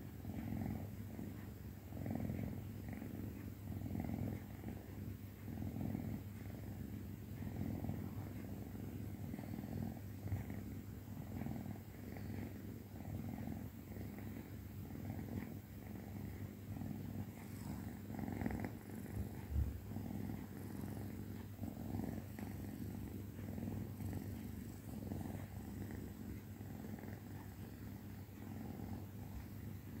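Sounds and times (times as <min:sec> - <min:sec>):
kitten purring: 0:00.0 - 0:30.0.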